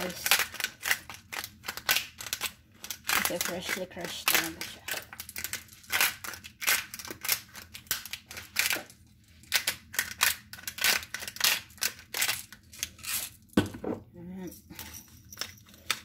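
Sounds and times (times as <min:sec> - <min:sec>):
spice grinder crunching: 0:00.0 - 0:13.6.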